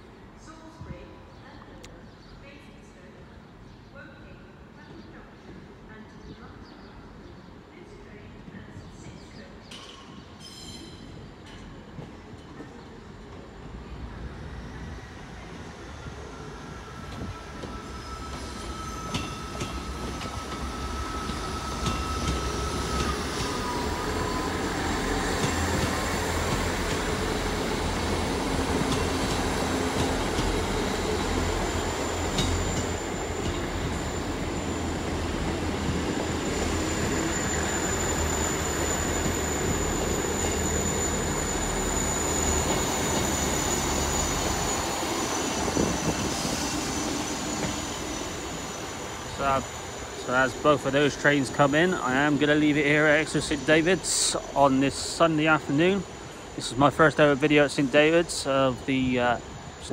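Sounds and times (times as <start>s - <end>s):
diesel train engines: 0.0s - 59.9s.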